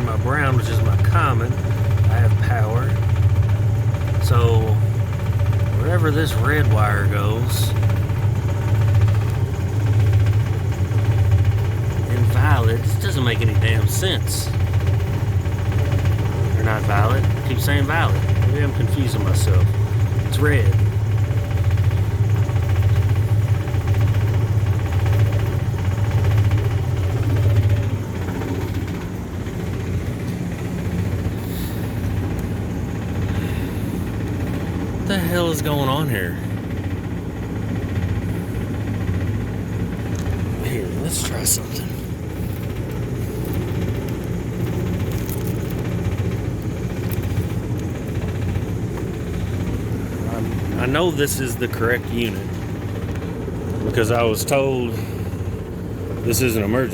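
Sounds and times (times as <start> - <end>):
hvac unit humming: 0.0 - 56.9.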